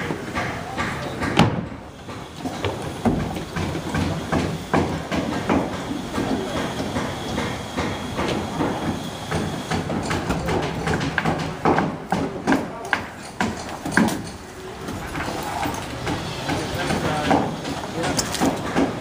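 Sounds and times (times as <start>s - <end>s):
steady background noise: 0.0s - 19.0s
timber and tools knocking: 0.0s - 19.0s.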